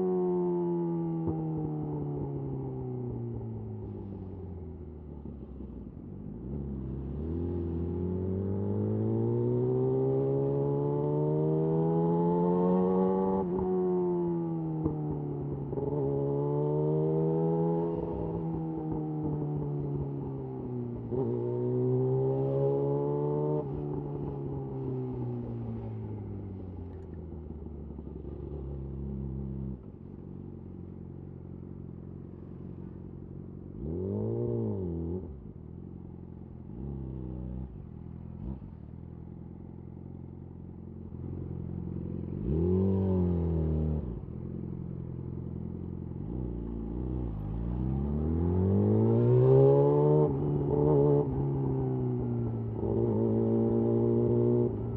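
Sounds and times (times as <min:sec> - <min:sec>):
motorcycle engine revving: 0:06.5 - 0:29.9, 0:33.6 - 0:54.9.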